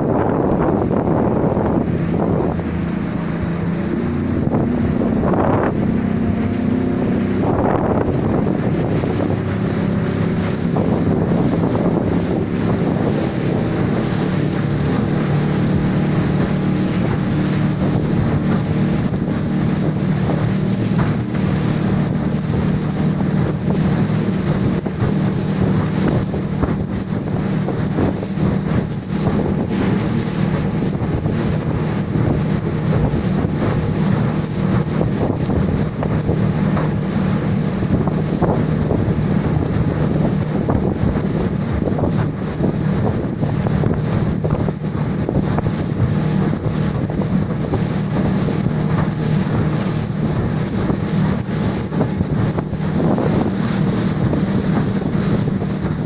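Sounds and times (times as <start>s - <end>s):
boat motor running: 0.0s - 56.0s
boat through choppy water: 0.0s - 56.0s
wind buffeting microphone: 0.0s - 56.0s.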